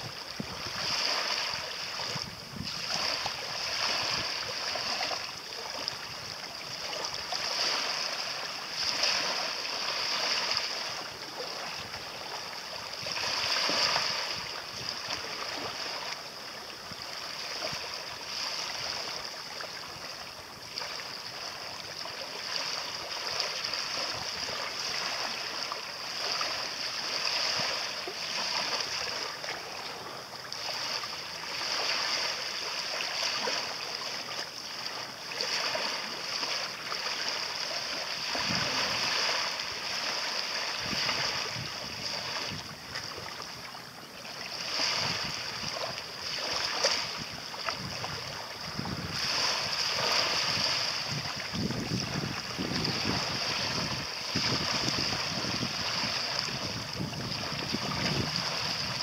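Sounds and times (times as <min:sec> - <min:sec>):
small waves lapping at shoreline: 0:00.0 - 0:59.0.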